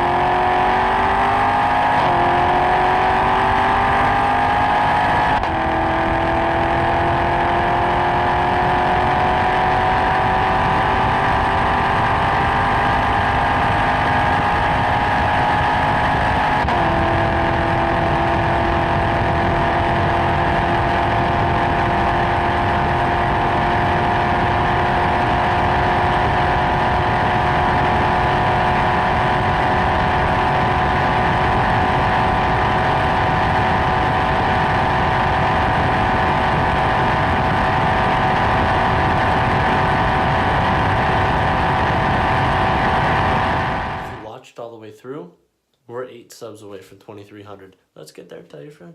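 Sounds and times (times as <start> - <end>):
car engine accelerating: 0.0 - 44.3.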